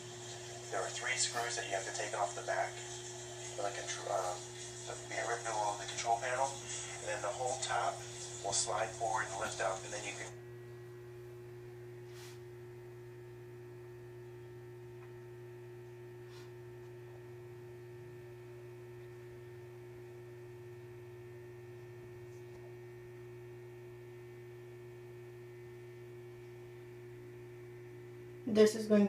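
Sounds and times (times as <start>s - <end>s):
washing machine electrical hum: 0.0s - 29.0s.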